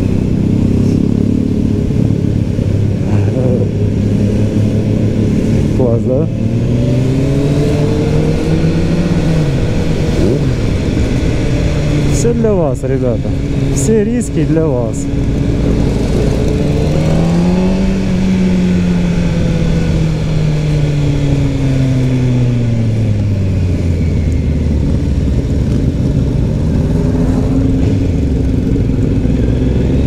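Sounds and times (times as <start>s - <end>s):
motorcycle engine: 0.0s - 30.0s
wind and road noise: 0.0s - 30.0s.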